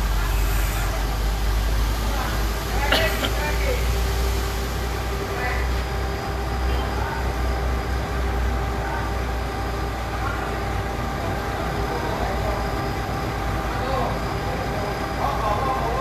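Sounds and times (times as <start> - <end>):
faint steady whines: 0.0 - 16.0
heavy vehicle engine rumbling: 0.0 - 16.0.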